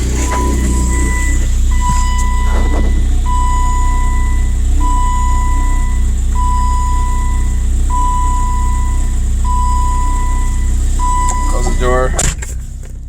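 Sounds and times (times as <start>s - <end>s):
dashboard warning chime beeping: 0.0s - 12.2s
car engine idling: 0.0s - 13.0s.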